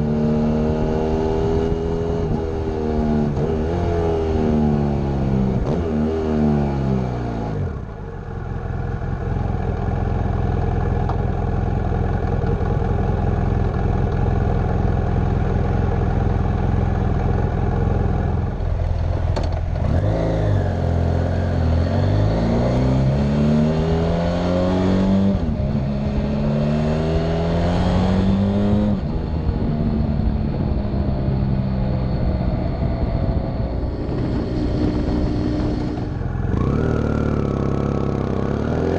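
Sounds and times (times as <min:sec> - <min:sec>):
motorcycle engine revving: 0:00.0 - 0:11.2, 0:15.0 - 0:38.9.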